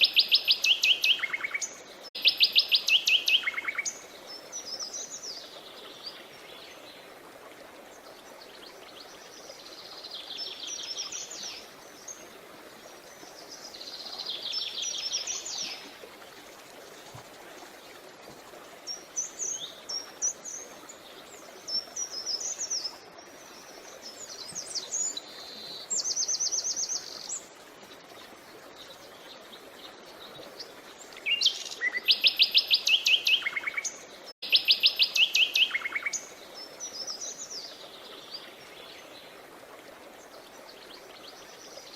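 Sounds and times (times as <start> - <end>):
creek water flowing: 0.0 - 41.9.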